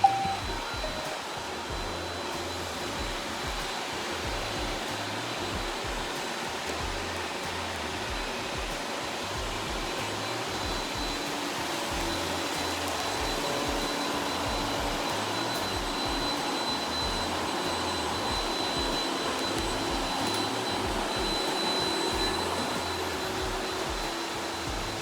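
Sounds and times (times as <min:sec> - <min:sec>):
robot vacuum cleaner running: 0:00.0 - 0:25.0.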